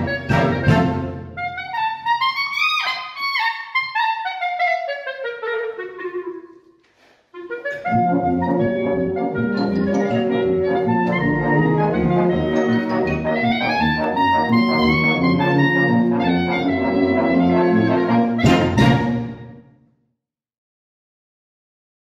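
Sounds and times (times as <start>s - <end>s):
solo clarinet: 0.0s - 19.0s.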